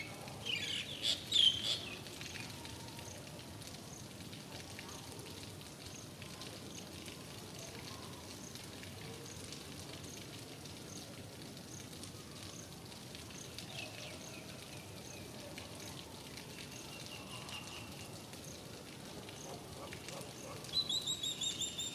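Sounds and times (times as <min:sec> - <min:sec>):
rain drops pattering: 0:00.0 - 0:21.9.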